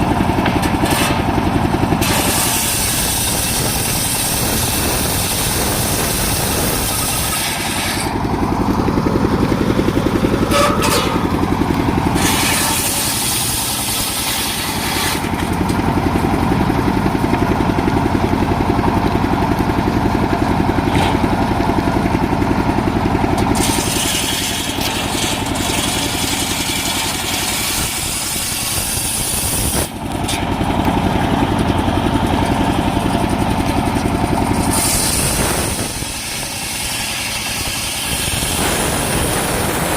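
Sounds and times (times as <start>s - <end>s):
saw cutting through trunk: 0.0s - 39.9s
sawmill engine running: 0.0s - 39.9s.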